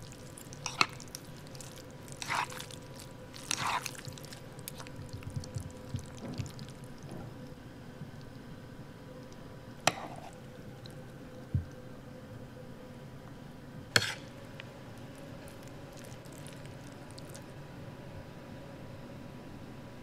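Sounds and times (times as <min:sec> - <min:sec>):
restaurant room noise: 0:00.0 - 0:18.1
faint hum: 0:00.0 - 0:20.0.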